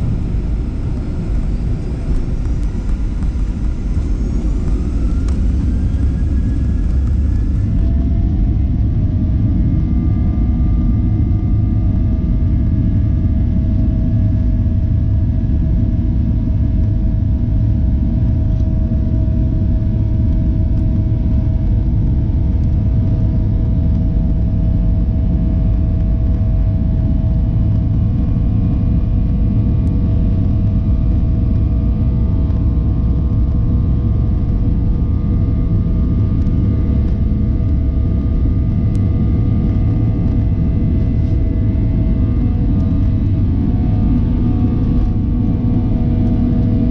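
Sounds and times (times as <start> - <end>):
airplane cabin rumble: 0.0 - 46.9
jet engine whine: 0.0 - 46.9.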